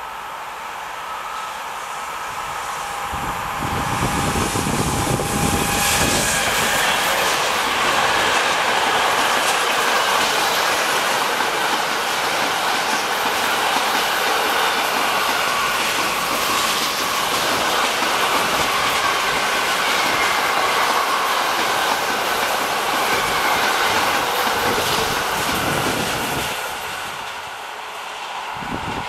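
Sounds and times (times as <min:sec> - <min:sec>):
train wheels clattering on rails: 0:02.6 - 0:27.8.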